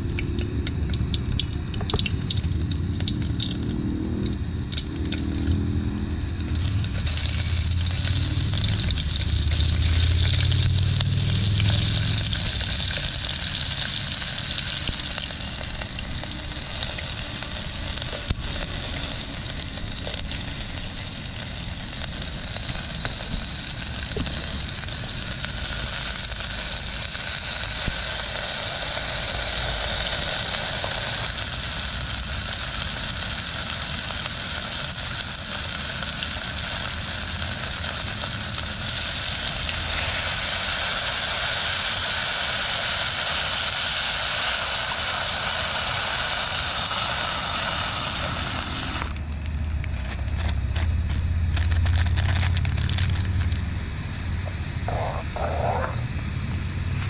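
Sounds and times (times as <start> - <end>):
vegetables sizzling in a pot: 0.0 - 55.8.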